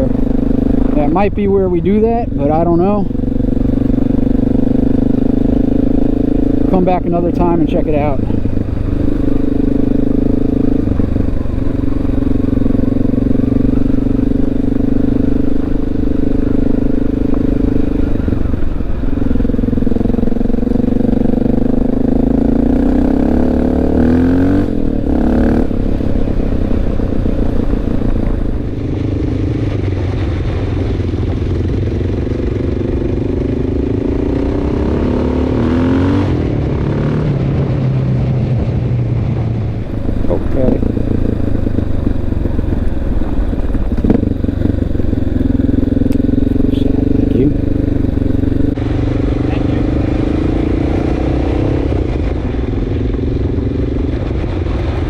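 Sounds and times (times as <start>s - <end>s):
motorcycle engine running: 0.0s - 29.8s, 39.5s - 55.0s.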